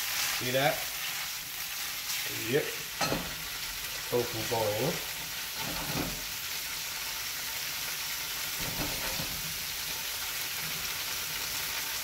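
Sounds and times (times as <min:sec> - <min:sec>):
tofu sizzling in a pan: 0:00.0 - 0:12.0.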